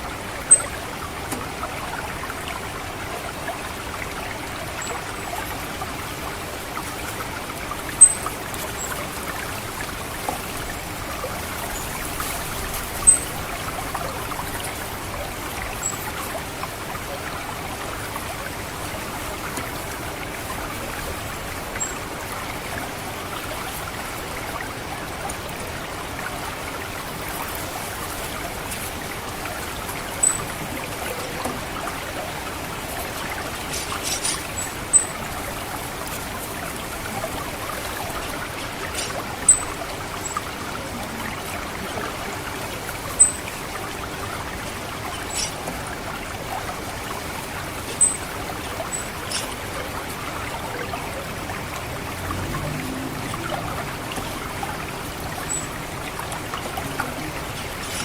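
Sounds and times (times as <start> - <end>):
water trickling and gurgling: 0.0 - 58.0.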